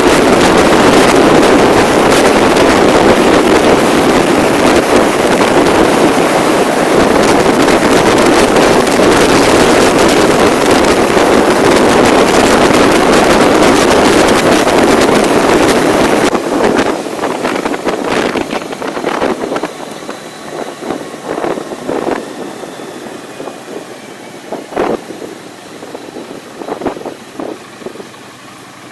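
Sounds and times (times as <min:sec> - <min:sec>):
wind on microphone: 0:00.0 - 0:28.1
moving vehicle ride noise: 0:00.0 - 0:28.9.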